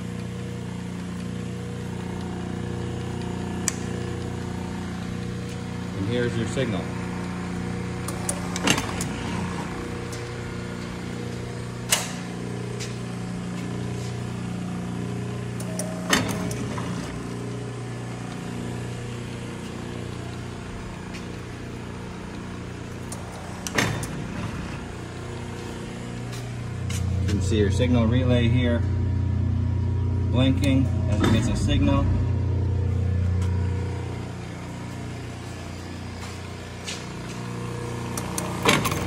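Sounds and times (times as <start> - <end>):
machine motors humming: 0.0 - 39.0.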